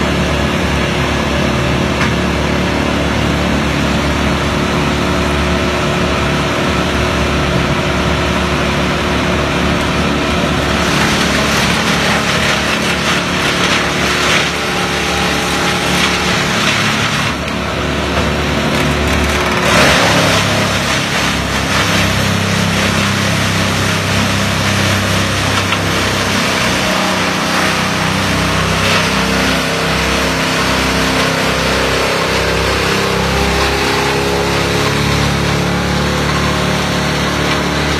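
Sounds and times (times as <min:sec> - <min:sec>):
branches grinding in chipper: 0:00.0 - 0:37.9
chipper engine running: 0:00.0 - 0:37.9.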